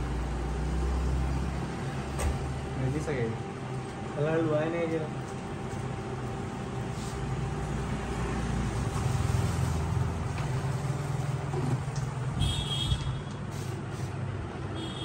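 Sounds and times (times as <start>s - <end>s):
printer motor hum: 0.0s - 12.2s.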